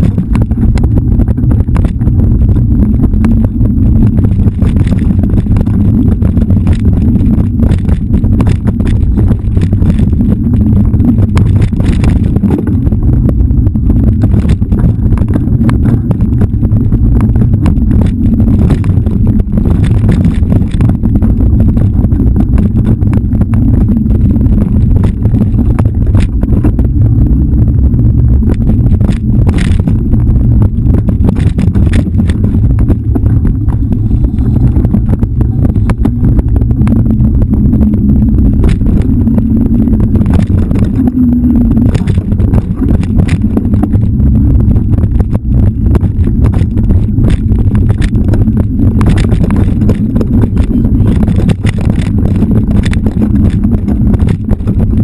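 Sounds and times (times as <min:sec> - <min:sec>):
bike clicking and rattling: 0:00.0 - 0:55.0
wind on microphone: 0:00.0 - 0:55.0.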